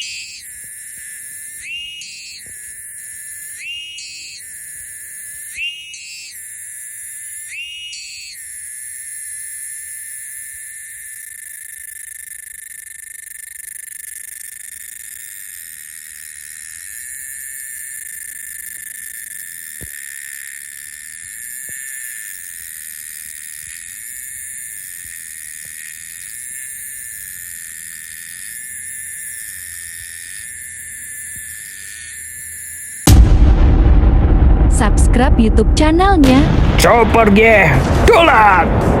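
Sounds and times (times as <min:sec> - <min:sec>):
insects trilling: 0:00.0 - 0:33.2.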